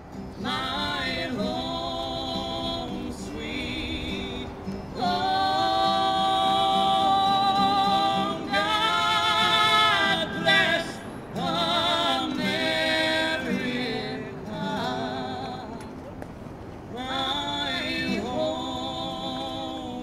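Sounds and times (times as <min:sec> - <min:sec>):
person singing long notes: 0:00.4 - 0:16.0, 0:16.9 - 0:20.0.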